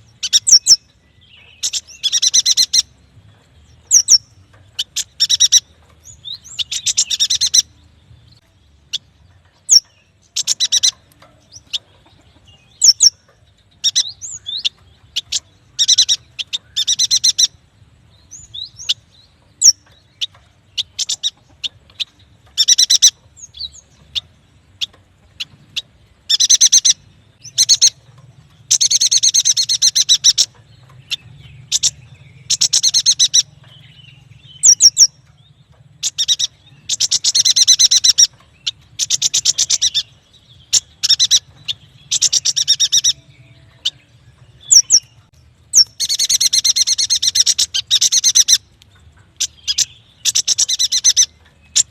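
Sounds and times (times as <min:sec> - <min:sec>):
bird chattering trill: 0:00.0 - 0:00.9, 0:01.5 - 0:03.0, 0:03.9 - 0:05.7, 0:08.9 - 0:17.6, 0:18.3 - 0:24.2, 0:24.8 - 0:44.0, 0:44.6 - 0:51.9.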